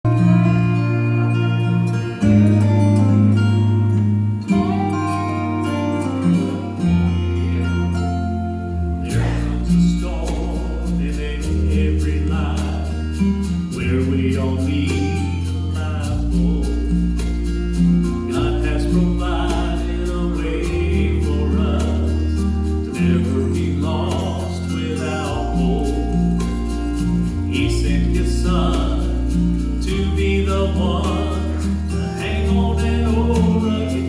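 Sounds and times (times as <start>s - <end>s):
bass line: 0.0s - 34.0s
gospel singing: 0.0s - 34.0s
guitar: 0.0s - 34.0s.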